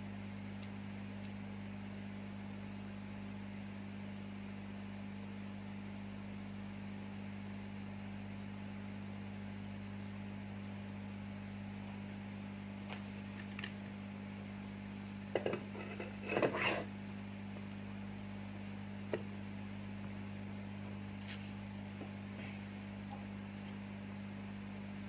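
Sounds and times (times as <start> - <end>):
electrical mains hum: 0.0 - 25.0.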